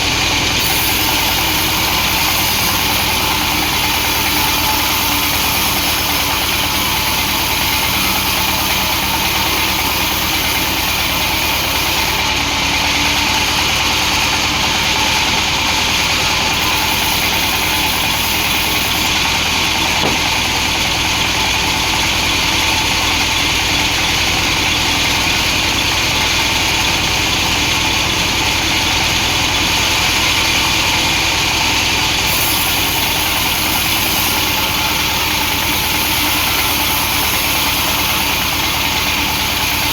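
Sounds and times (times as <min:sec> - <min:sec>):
saw hissing through wood: 0:00.0 - 0:39.9
sawmill engine drone: 0:00.0 - 0:39.9.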